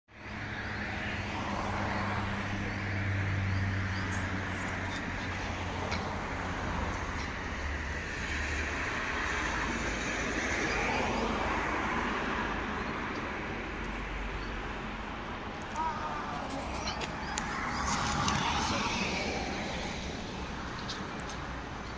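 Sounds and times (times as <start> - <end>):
aircraft engines rushing: 0.4 - 21.8.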